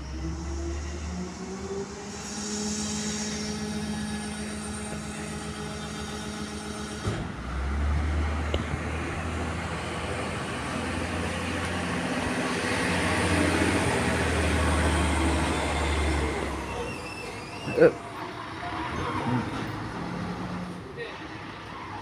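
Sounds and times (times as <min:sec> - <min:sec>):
garbage truck low drone: 0:00.0 - 0:22.0
garbage truck pitched hum: 0:00.0 - 0:22.0.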